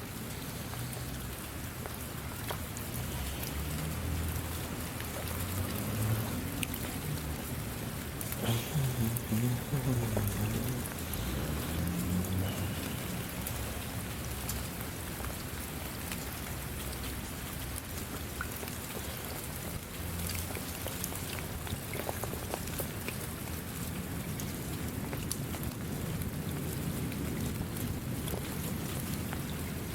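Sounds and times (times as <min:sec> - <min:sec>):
raindrops ticking: 0:00.0 - 0:29.9
steady rain falling: 0:00.0 - 0:29.9.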